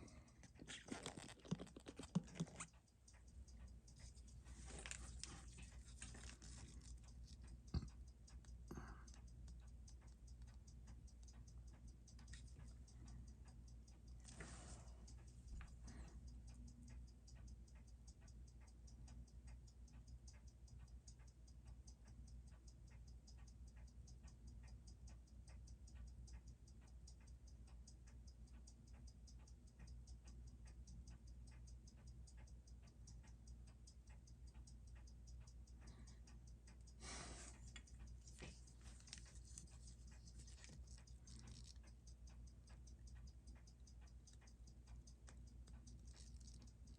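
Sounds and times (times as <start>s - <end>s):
watch ticking: 0.0s - 46.9s.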